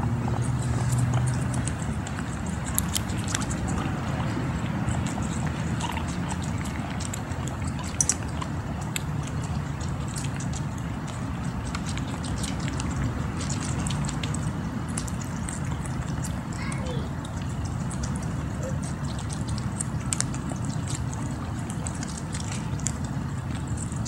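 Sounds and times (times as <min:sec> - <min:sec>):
guinea pigs chewing: 0:00.0 - 0:24.0
low background rumble: 0:00.0 - 0:24.0.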